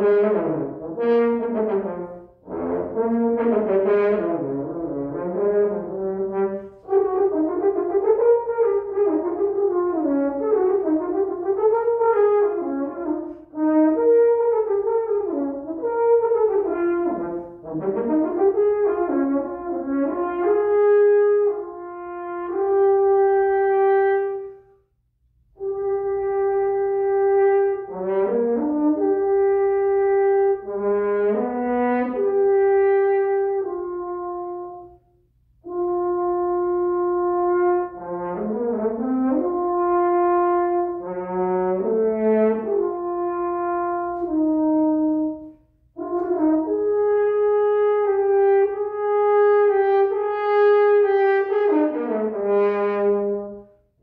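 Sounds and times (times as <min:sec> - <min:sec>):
french horn solo: 0:00.0 - 0:54.0.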